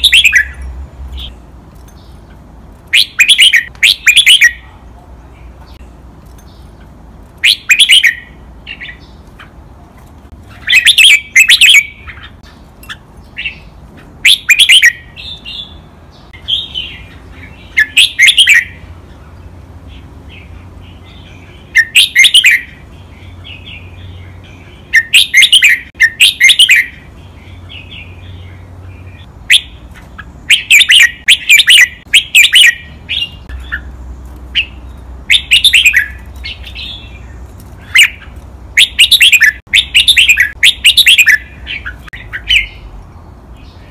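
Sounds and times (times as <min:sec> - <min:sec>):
bird singing: 0:00.0 - 0:09.8, 0:10.4 - 0:43.9.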